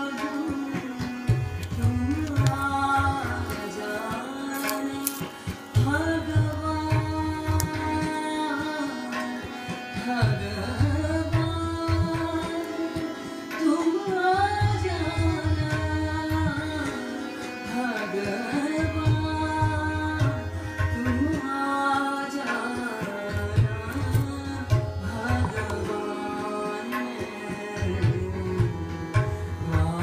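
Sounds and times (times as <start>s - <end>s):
woman singing devotional song: 0.0s - 30.0s.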